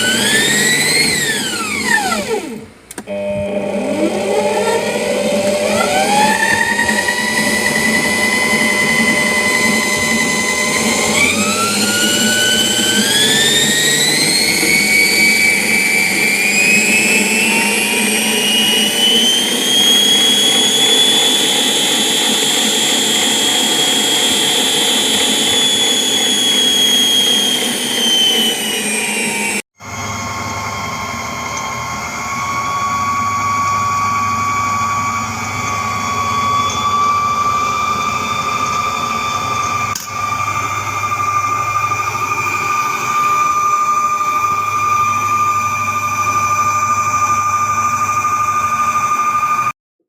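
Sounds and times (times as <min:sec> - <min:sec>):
stand mixer motor whine: 0:00.0 - 0:49.7.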